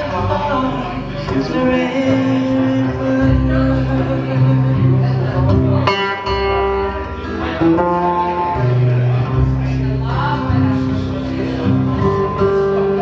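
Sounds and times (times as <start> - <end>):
acoustic guitar: 0.0 - 13.0
double bass held notes: 0.0 - 13.0.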